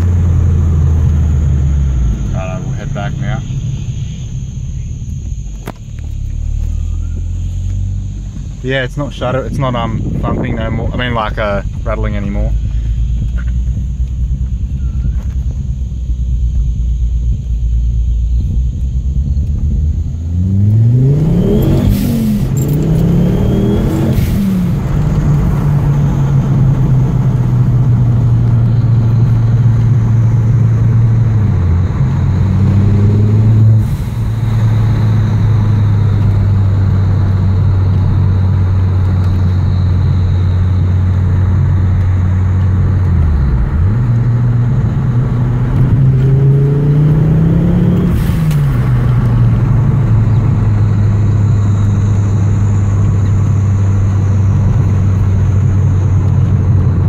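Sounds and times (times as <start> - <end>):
car engine revving from cabin: 0.0 - 9.8, 19.0 - 57.0.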